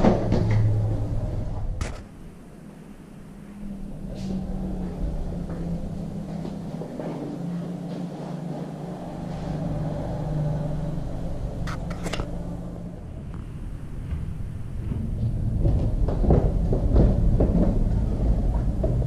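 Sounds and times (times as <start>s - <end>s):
low wavering hum: 0.0s - 19.0s.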